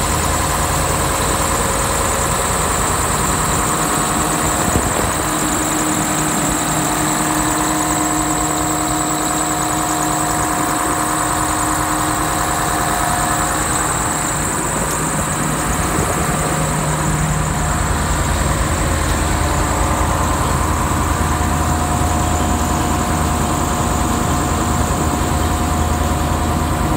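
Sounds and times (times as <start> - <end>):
diesel engine running steadily: 0.0 - 26.9.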